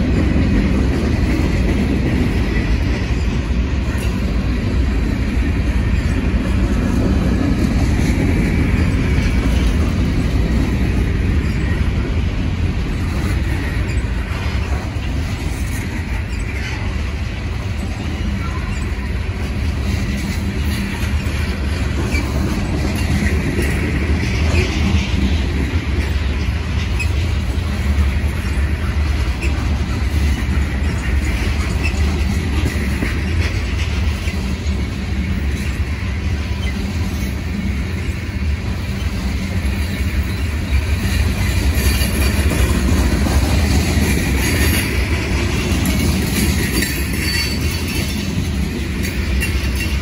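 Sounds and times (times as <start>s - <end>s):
freight train cars rolling past: 0.0s - 50.0s.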